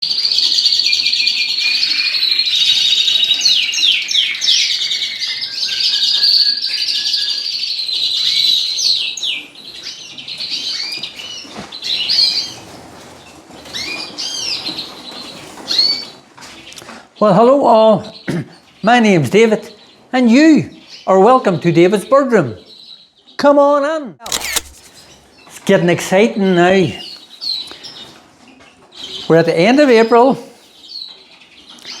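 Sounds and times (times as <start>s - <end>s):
canaries and finches singing: 0.0s - 32.0s.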